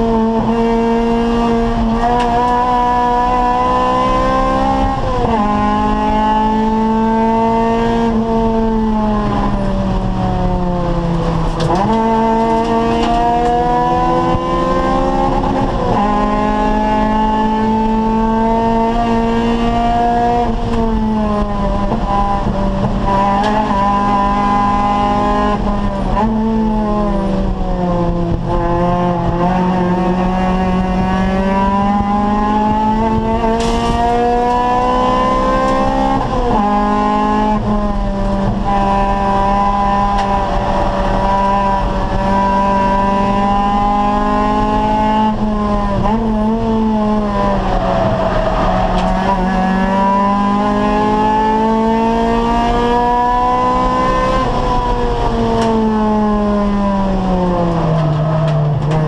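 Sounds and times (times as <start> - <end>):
race car engine at speed: 0.0 - 59.0.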